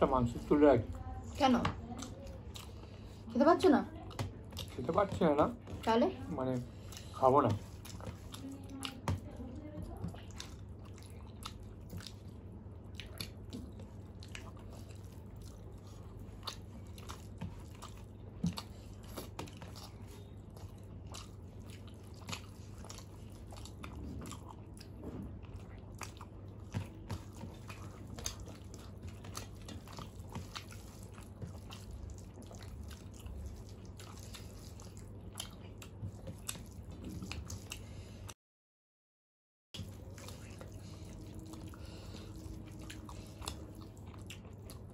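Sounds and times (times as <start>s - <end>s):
low steady hum: 0.0s - 38.4s, 39.8s - 44.9s
chewing: 0.2s - 38.4s, 39.8s - 44.9s.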